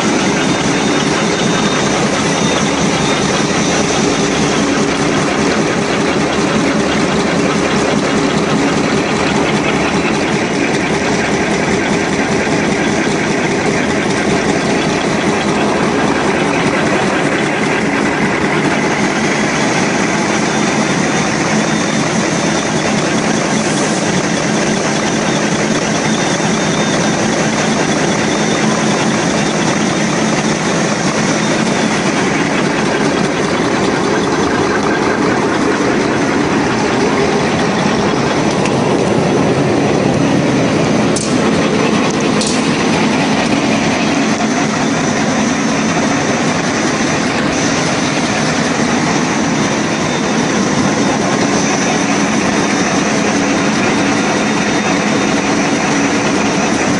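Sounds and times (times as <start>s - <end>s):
packing machine running: 0.0s - 56.9s.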